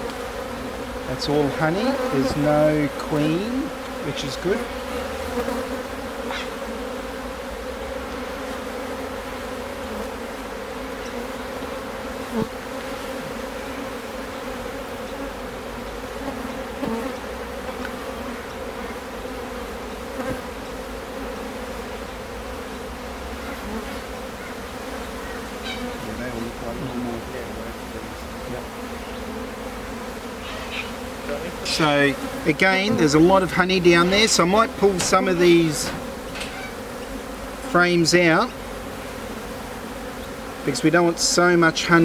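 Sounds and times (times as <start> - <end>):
honeybees buzzing: 0.0 - 42.0.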